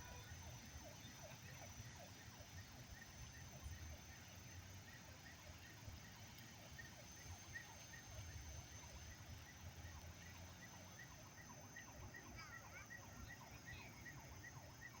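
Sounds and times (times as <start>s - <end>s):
frog and insect calls: 0.0s - 15.0s.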